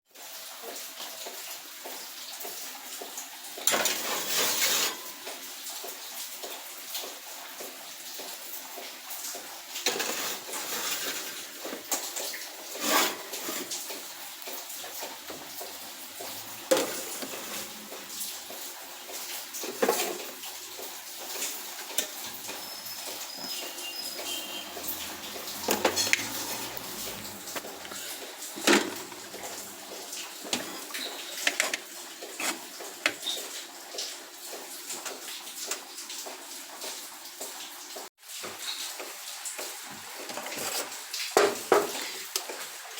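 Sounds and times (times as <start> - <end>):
rain falling: 0.1 - 42.9.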